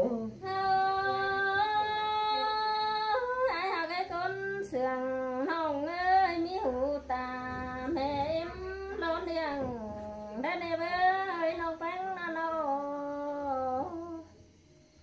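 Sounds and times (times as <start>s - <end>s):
person singing unaccompanied: 0.0s - 14.5s.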